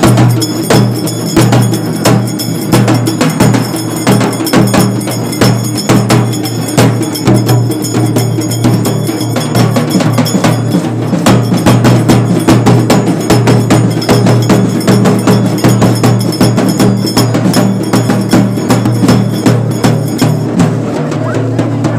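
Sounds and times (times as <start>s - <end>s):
fast procession drumming: 0.0s - 21.9s.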